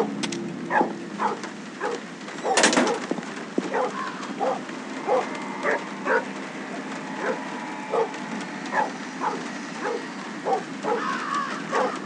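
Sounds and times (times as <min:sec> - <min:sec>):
dog barking: 0:00.7 - 0:03.0, 0:03.7 - 0:06.3, 0:07.2 - 0:12.0.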